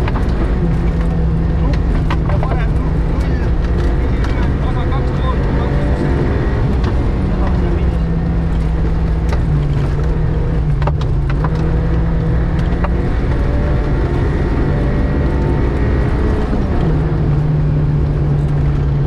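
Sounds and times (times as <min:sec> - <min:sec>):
gravel hitting car: 0:00.0 - 0:19.0
rally car engine running hard: 0:00.0 - 0:19.0
road noise: 0:00.0 - 0:19.0.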